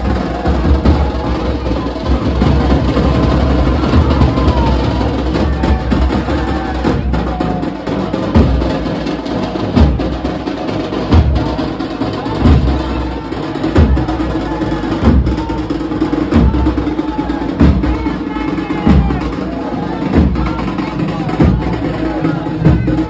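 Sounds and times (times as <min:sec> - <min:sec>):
drum-heavy music: 0:00.0 - 0:23.0.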